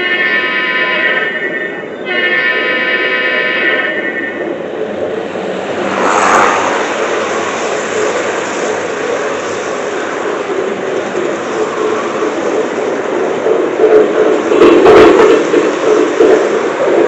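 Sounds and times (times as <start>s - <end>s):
model train rumbling: 0.0s - 17.0s.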